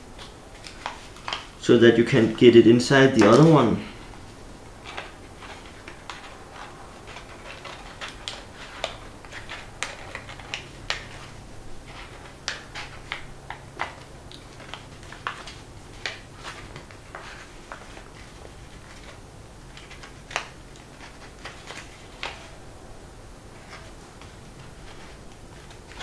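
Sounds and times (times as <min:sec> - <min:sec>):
folded paper crackling: 0:00.0 - 0:26.0.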